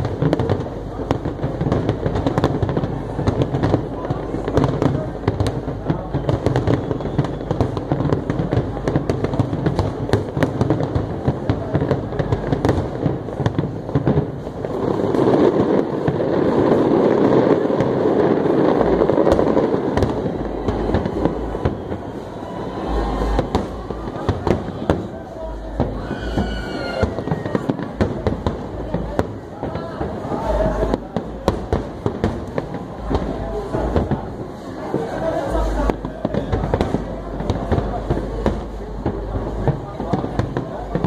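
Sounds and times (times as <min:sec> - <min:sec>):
fireworks crackling and banging: 0:00.0 - 0:41.0.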